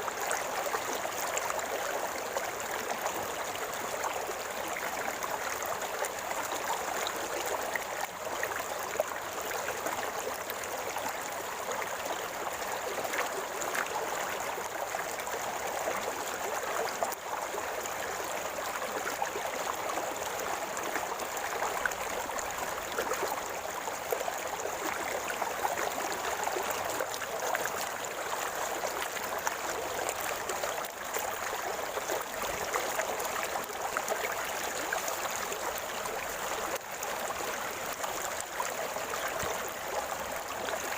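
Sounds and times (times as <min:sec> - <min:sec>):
river water flowing and gurgling: 0:00.0 - 0:40.9.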